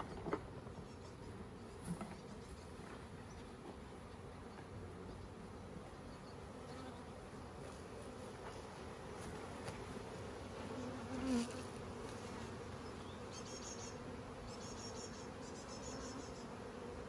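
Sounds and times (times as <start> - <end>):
honeybees humming: 0.0 - 17.0
bee buzzing close by: 1.2 - 17.0.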